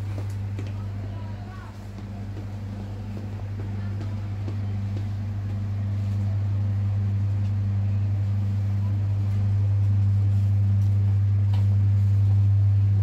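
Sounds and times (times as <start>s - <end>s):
refrigerator electrical hum: 0.0s - 13.0s.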